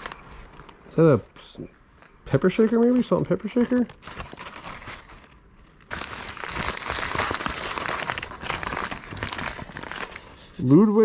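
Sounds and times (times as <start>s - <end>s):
packing wrap crinkling: 0.0s - 1.0s, 1.9s - 10.4s.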